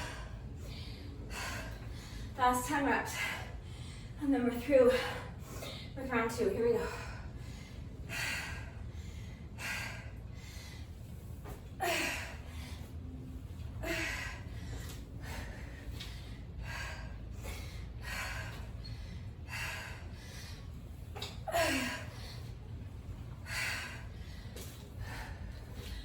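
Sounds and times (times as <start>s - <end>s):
woman breathing hard: 0.0s - 2.4s, 3.1s - 4.2s, 4.8s - 6.0s, 6.7s - 26.0s.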